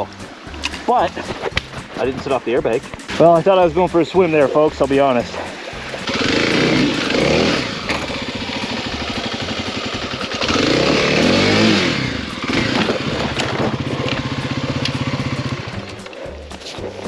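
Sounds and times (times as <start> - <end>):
motorcycle engine revving and idling: 3.0 - 17.0.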